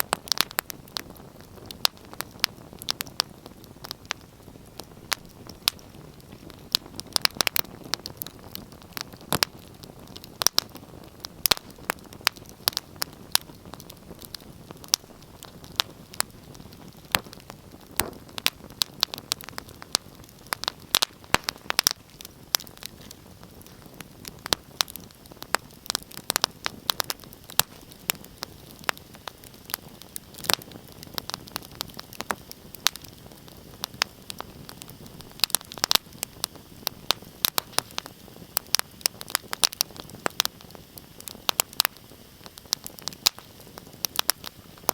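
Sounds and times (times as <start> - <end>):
hiss of flames: 0.0 - 44.9
wood fire snaps and pops: 0.0 - 44.9.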